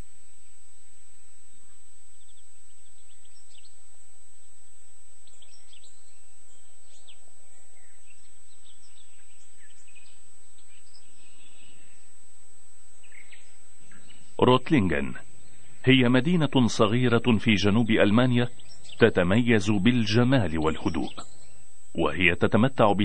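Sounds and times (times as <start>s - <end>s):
steady background hiss: 0.0s - 23.0s
bird chirps: 1.5s - 3.9s, 4.6s - 12.2s, 13.0s - 23.0s.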